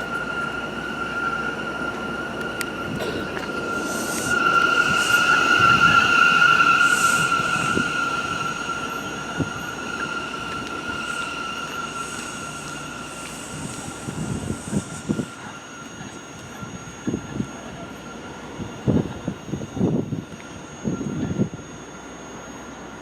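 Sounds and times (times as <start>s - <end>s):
train wheels squealing on rails: 0.0s - 23.0s.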